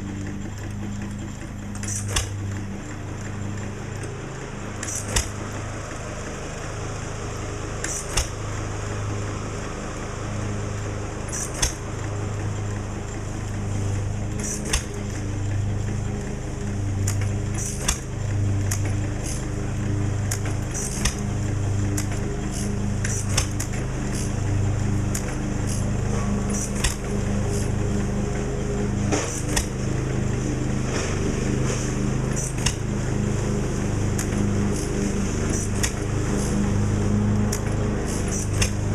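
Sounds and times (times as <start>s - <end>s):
flywheel engine humming: 0.0s - 38.9s.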